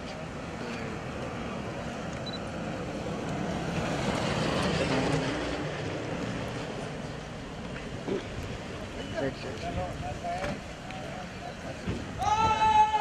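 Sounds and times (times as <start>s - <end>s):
cars driving past: 0.0s - 12.2s.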